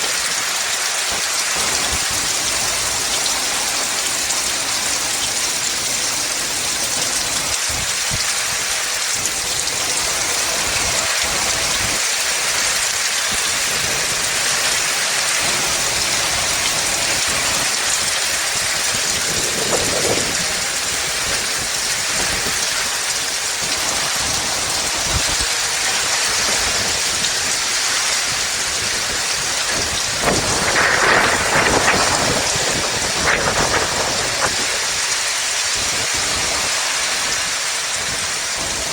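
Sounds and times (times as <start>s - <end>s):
heavy rain: 0.0s - 38.9s
wind: 0.0s - 38.9s.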